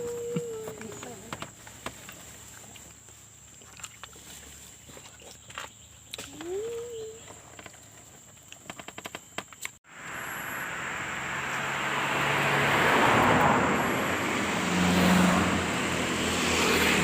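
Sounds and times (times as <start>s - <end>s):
wind and road noise: 0.0s - 6.1s, 7.3s - 17.0s.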